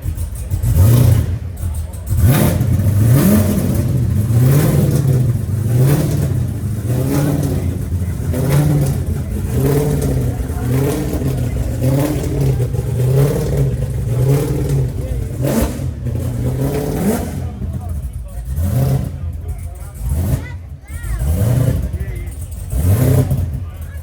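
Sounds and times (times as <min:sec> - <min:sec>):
car engine revving in short blips: 0:00.1 - 0:23.8.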